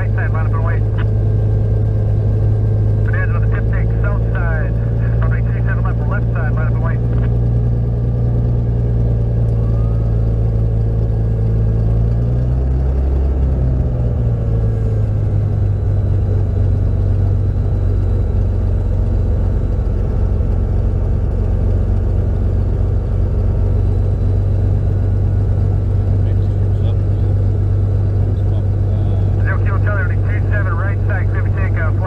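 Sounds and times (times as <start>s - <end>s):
piston engine and propeller running: 0.0s - 32.0s.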